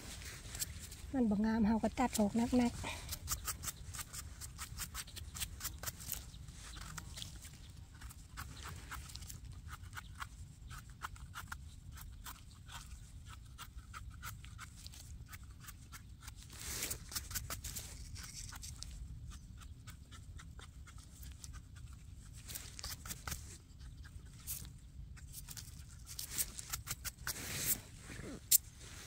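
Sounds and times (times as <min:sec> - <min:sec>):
knife scraping mushroom stem: 0:01.9 - 0:29.0.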